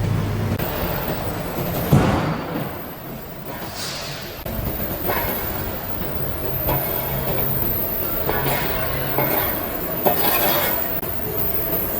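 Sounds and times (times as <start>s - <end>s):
machinery humming: 0.0s - 11.9s.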